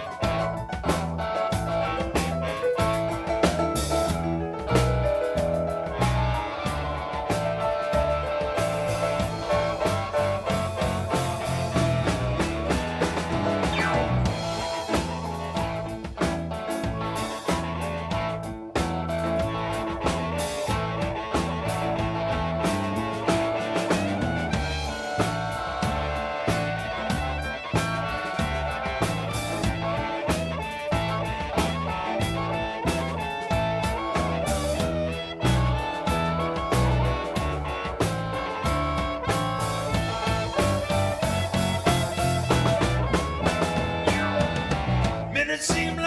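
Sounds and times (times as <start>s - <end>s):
bass guitar: 0.0s - 46.0s
drum kit: 0.0s - 46.0s
electric guitar: 0.0s - 46.0s.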